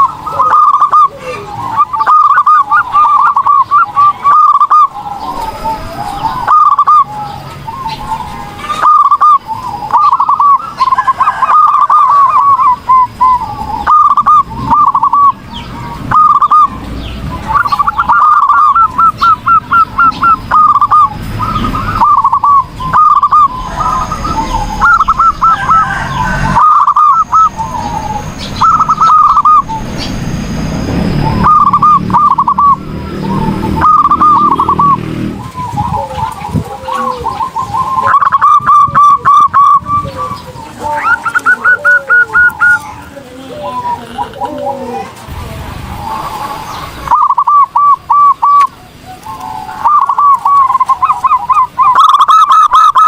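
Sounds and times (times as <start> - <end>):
doves cooing: 0.0 - 53.0.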